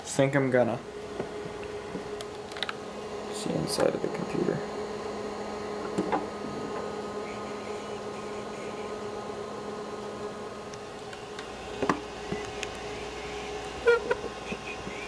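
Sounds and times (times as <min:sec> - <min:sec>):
computer fan and drive humming: 0:00.0 - 0:15.0.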